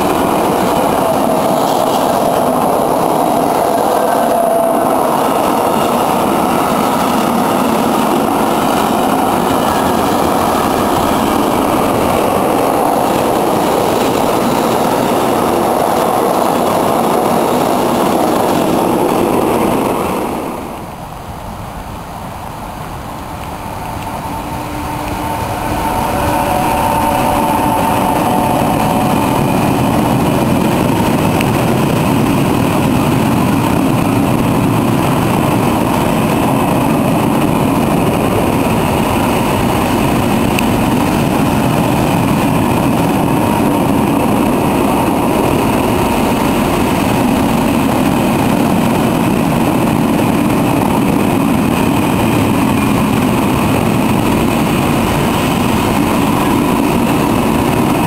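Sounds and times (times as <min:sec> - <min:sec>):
electric locomotive high tone: 0:00.0 - 0:21.6, 0:22.9 - 0:58.0
steel wheels rushing on rail: 0:00.0 - 0:58.0.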